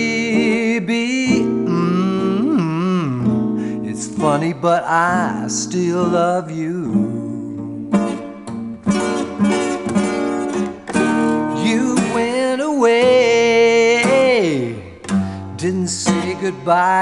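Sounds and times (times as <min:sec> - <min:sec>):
slow song: 0:00.0 - 0:17.0.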